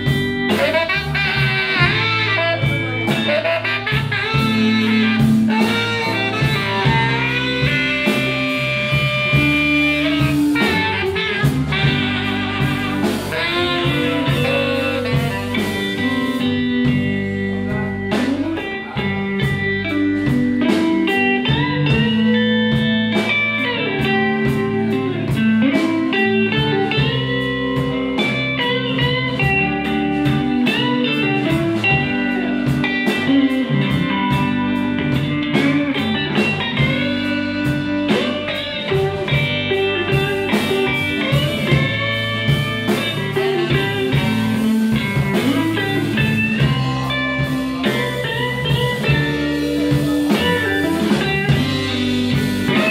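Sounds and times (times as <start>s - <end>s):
blues band playing: 0.0s - 52.9s
electric guitar solo: 0.0s - 52.9s.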